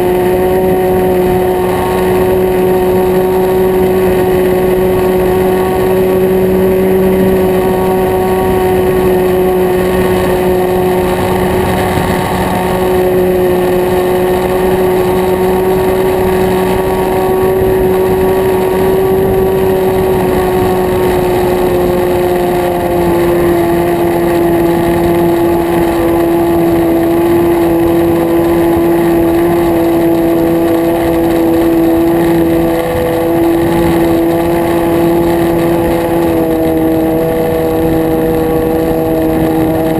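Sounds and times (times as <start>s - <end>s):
model plane engine high buzz: 0.0s - 39.9s.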